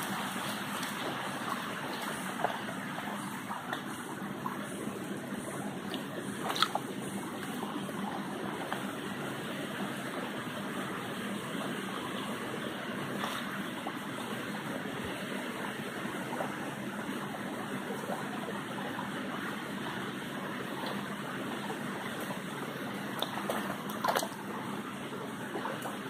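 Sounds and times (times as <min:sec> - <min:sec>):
water trickles and splashes: 0:00.0 - 0:26.0.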